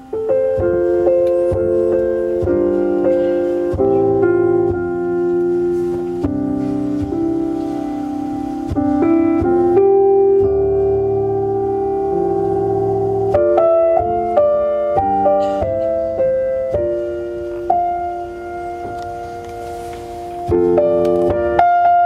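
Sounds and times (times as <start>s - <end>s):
solo piano music on car stereo: 0.0s - 22.0s.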